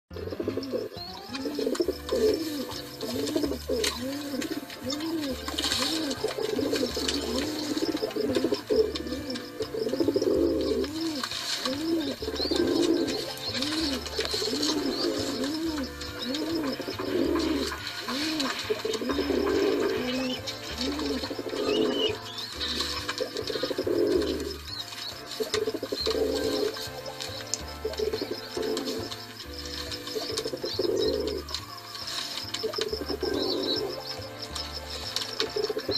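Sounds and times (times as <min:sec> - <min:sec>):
pigeons cooing: 0:00.1 - 0:35.9.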